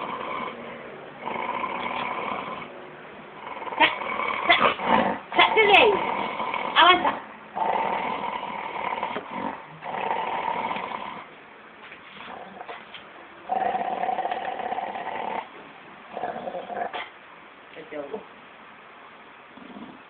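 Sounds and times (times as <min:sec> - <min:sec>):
dog growling: 0:00.0 - 0:11.3, 0:12.1 - 0:17.1, 0:19.5 - 0:20.0.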